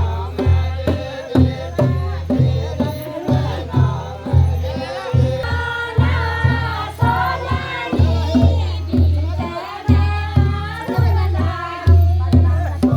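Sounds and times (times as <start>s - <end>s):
steady drum beat: 0.0s - 12.9s
voices singing a folk song: 0.0s - 12.9s.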